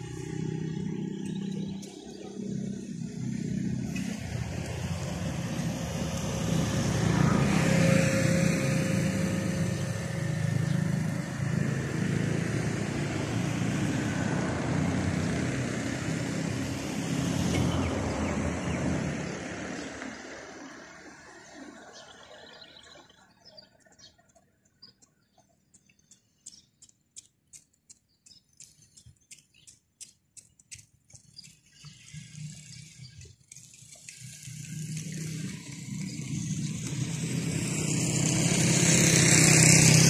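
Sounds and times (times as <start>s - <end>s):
vehicles passing on road: 0.0s - 40.0s.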